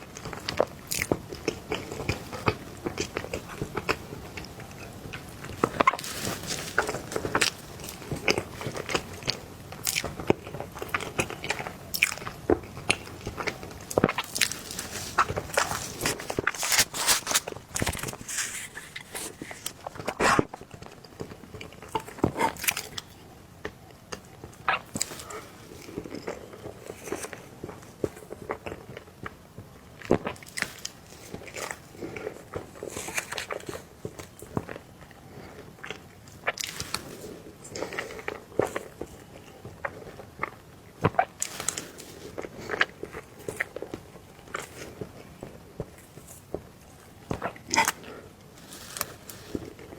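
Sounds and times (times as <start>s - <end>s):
chewing soft cake: 0.0s - 49.9s.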